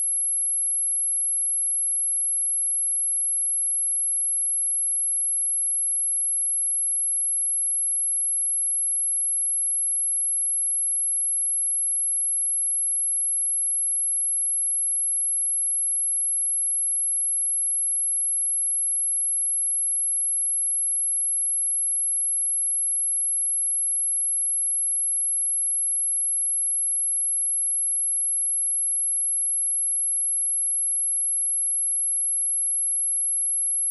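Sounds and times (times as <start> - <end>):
high-pitched sine test tone: 0.0 - 33.9.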